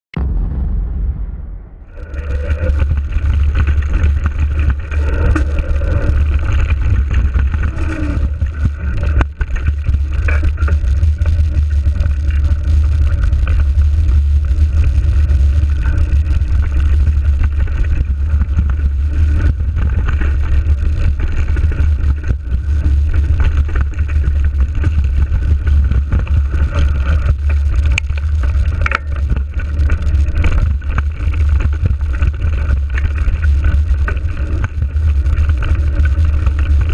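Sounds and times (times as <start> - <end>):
bicycle tyres rattling on rough ground: 1.9 - 36.9.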